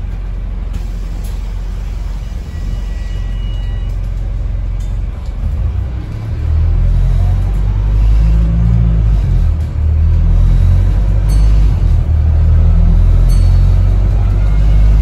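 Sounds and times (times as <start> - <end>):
bus low rumble from inside: 0.0 - 15.0.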